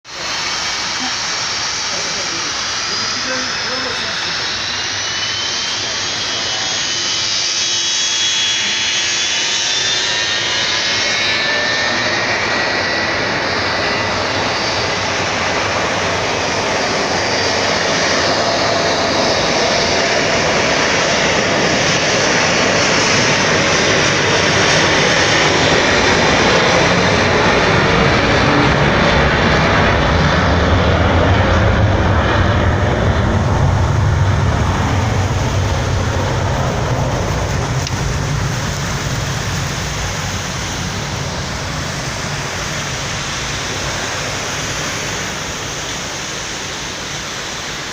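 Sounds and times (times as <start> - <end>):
jet engine low rumble: 0.0 - 47.9
jet engines high whining: 0.0 - 47.9.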